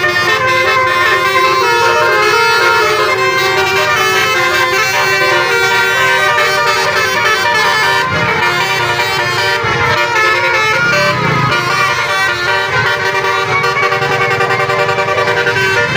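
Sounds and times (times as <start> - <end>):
bus horn playing a tune: 0.0 - 15.9.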